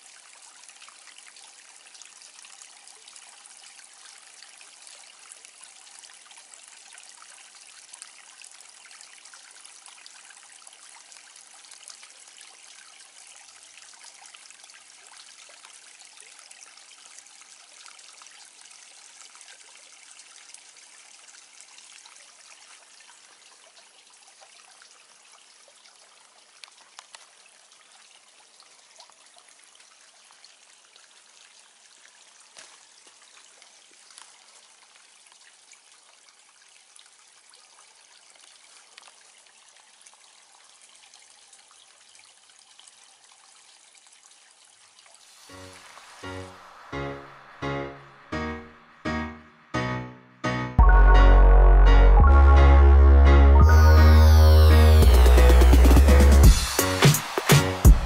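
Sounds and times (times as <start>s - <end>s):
water trickling over stones: 0.0s - 47.6s.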